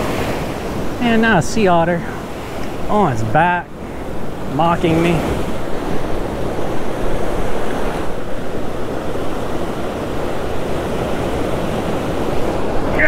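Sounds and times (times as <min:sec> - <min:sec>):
ocean surf breaking: 0:00.0 - 0:13.0
wind on microphone: 0:02.0 - 0:13.0.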